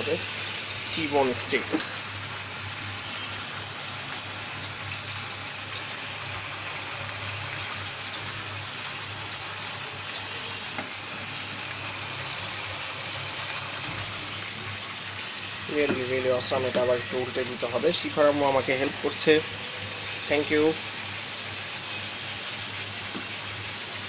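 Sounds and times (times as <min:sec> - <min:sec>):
steak sizzling in a frying pan: 0:00.0 - 0:24.0.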